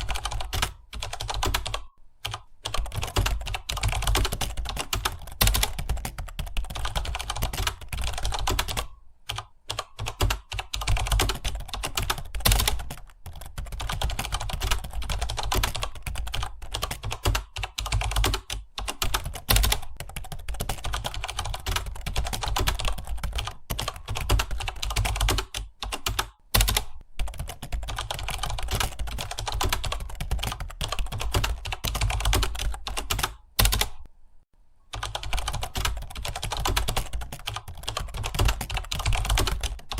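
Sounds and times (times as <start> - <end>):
fast keyboard typing: 0.0 - 34.1, 34.9 - 39.9.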